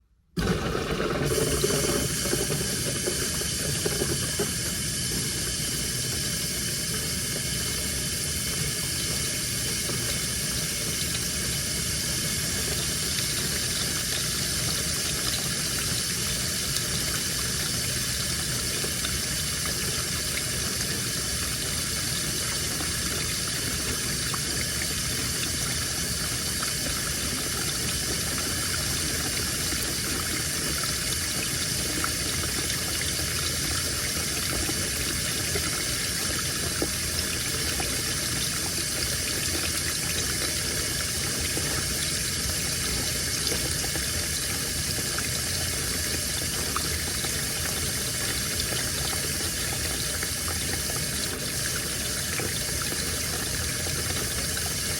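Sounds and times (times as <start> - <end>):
water rushing into washing machine: 0.3 - 54.9.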